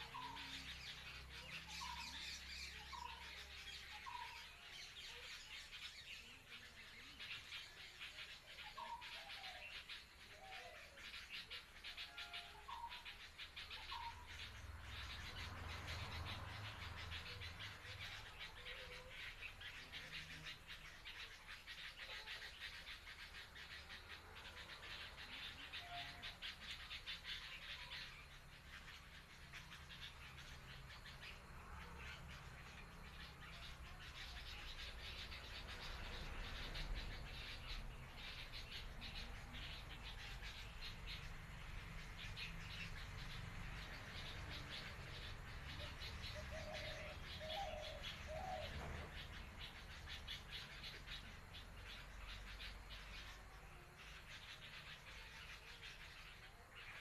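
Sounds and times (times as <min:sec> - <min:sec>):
birds whistling calls: 0:00.0 - 0:57.0
rapid ticking chorus: 0:05.5 - 0:57.0.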